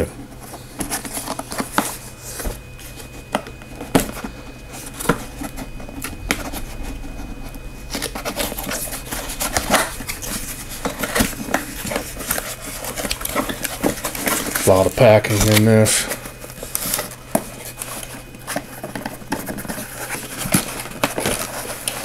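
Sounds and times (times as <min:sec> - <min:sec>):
cardboard flaps handled: 0:00.3 - 0:22.0
packing tape peeling: 0:00.8 - 0:22.0.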